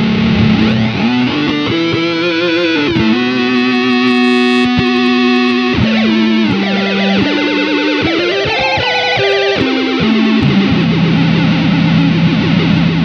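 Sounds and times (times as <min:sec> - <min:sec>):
synth-like electric guitar notes: 0:00.0 - 0:13.0.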